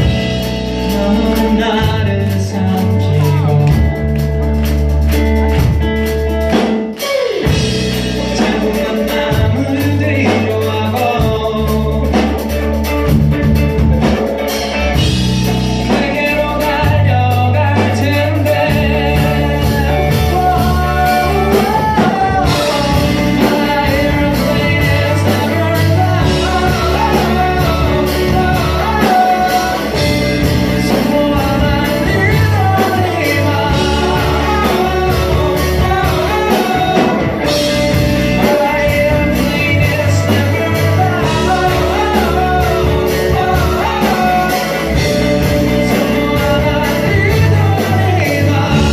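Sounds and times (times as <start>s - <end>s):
person singing: 0.0s - 13.2s, 13.8s - 48.9s
bass guitar: 0.0s - 48.9s
drums: 0.0s - 48.9s
electric guitar: 0.0s - 48.9s.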